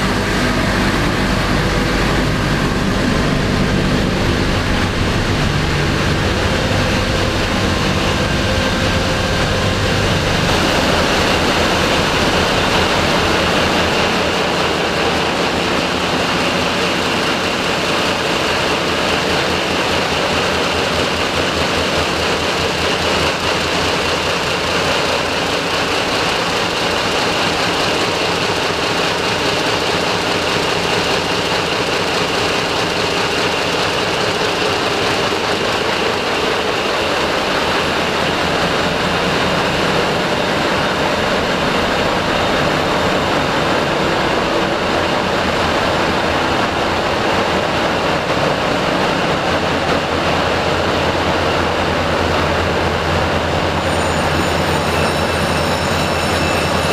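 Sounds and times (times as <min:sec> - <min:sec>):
diesel engines running: 0:00.0 - 0:56.9
faint high whine: 0:00.0 - 0:56.9.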